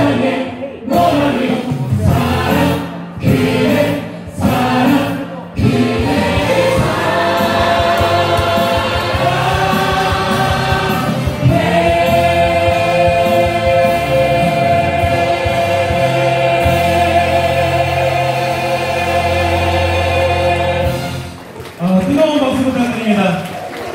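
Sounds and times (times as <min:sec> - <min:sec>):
group singing with accompaniment: 0:00.0 - 0:21.4.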